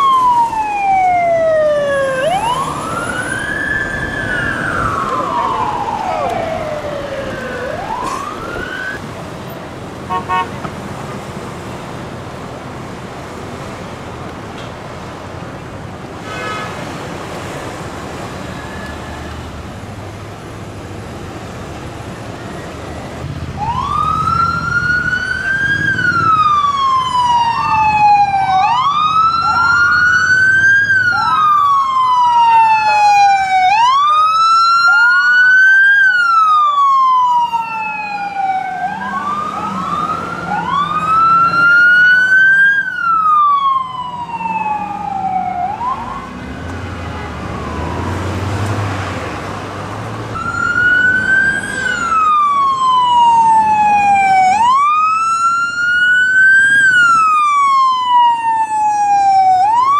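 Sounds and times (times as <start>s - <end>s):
police sirens wailing: 0.0s - 13.7s, 21.6s - 59.9s
passing traffic: 0.0s - 59.9s.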